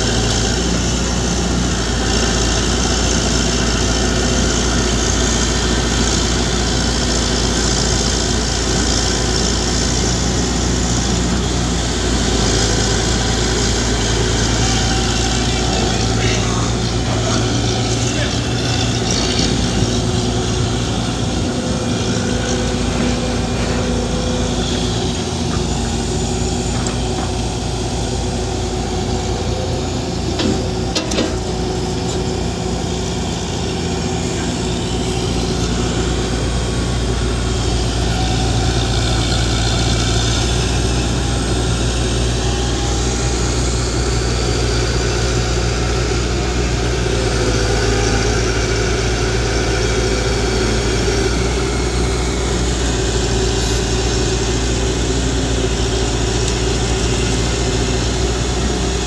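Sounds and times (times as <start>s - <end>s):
heavy diesel engines idling: 0.0s - 59.0s.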